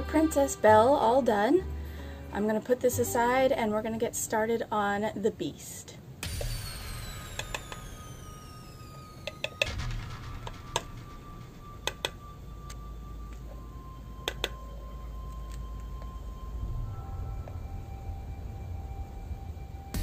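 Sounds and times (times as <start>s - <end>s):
faint background music: 0.0s - 8.2s, 9.3s - 20.0s.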